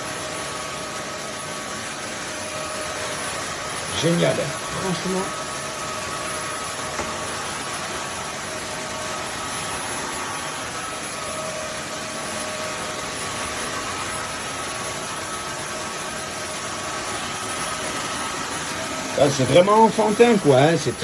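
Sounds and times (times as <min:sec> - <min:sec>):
vacuum mop motor whining: 0:00.0 - 0:21.0.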